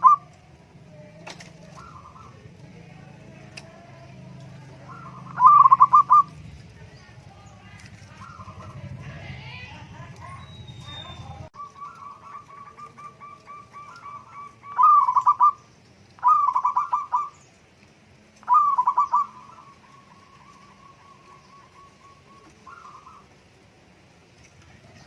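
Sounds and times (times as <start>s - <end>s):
dove cooing rattling phrases: 0.0s - 25.0s.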